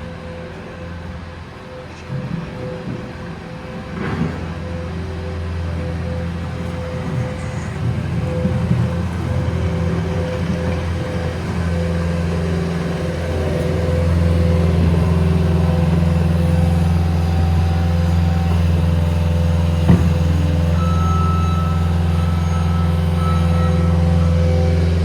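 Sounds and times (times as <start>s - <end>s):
large vehicle engine humming: 0.0s - 25.0s.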